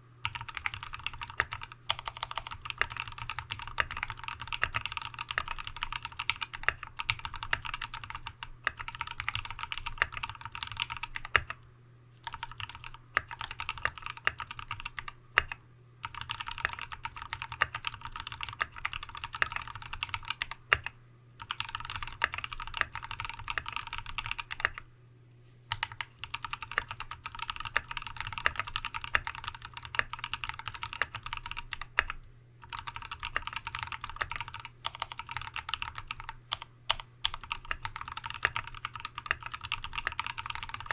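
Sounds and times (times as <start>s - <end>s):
fast mechanical keyboard typing: 0.2s - 11.6s, 12.2s - 24.8s, 25.7s - 40.9s.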